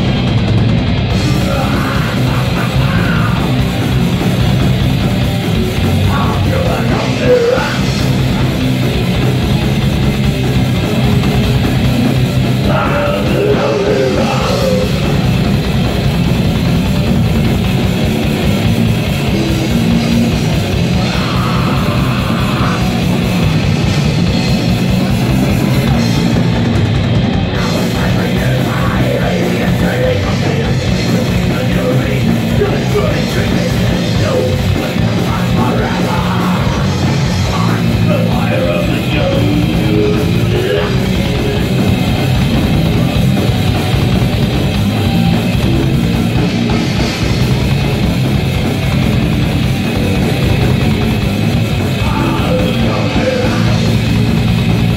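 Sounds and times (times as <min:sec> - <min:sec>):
electric guitars: 0:00.0 - 0:54.9
pounding drum kit: 0:00.0 - 0:54.9.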